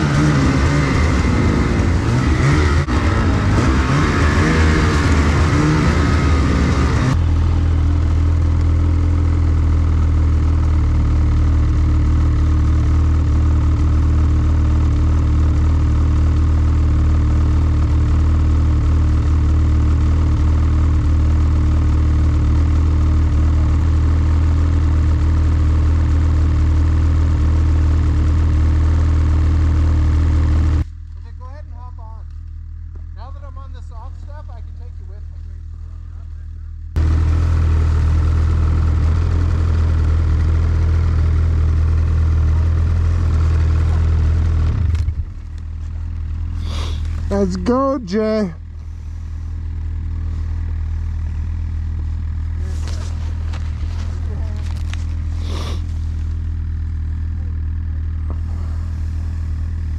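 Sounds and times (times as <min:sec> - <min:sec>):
snowmobile engine: 0:00.0 - 0:59.9
track and snow noise: 0:00.0 - 0:59.9.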